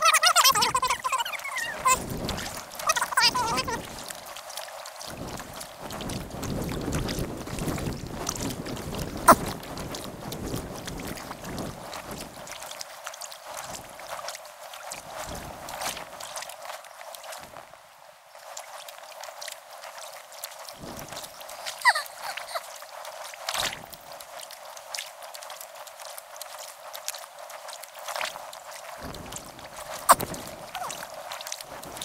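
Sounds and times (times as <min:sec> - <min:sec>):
dripping water: 0:00.0 - 0:17.7, 0:18.3 - 0:32.0
hiss of moving water: 0:00.0 - 0:32.0
paddle splashes: 0:00.0 - 0:32.0.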